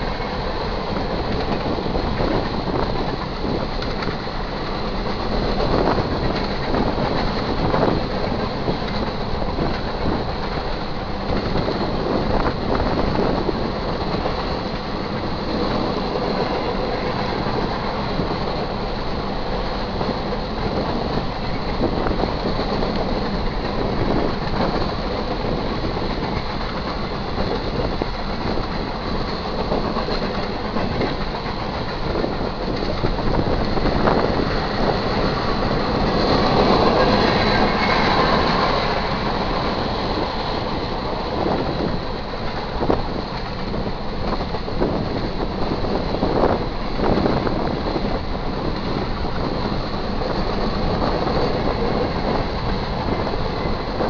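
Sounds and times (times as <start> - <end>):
train clanks: 0.0 - 54.0
train wheels rumbling on rails: 0.0 - 54.0.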